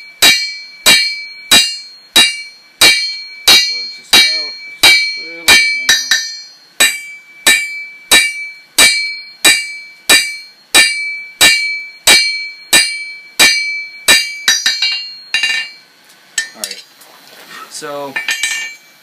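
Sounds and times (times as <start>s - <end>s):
hammer striking metal on anvil: 0.0s - 15.8s, 16.4s - 16.8s, 18.1s - 18.9s.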